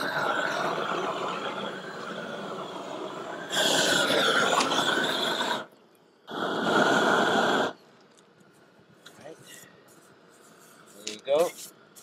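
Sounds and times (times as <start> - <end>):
roofing torch hissing: 0.0 - 12.0.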